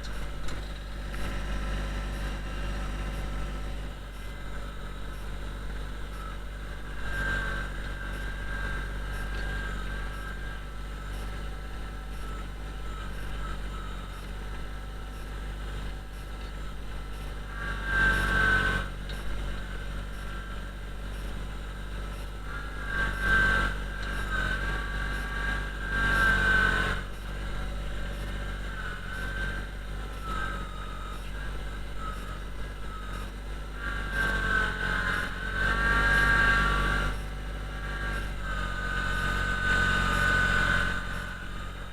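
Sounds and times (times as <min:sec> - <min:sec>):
diesel tractor engine whining: 0:00.0 - 0:41.9.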